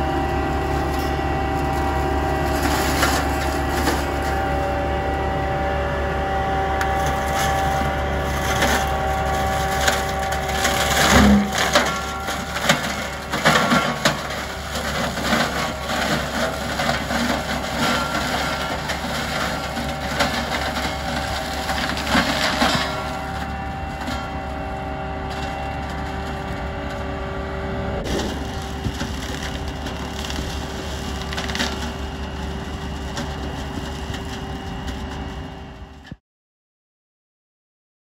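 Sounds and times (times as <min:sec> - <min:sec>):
tractor humming: 0:00.0 - 0:36.2.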